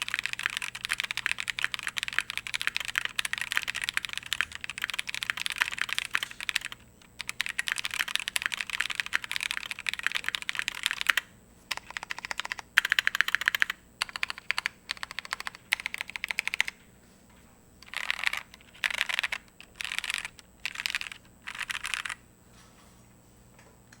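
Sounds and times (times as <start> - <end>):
typing on mechanical keyboard: 0.0 - 16.8, 17.8 - 22.2.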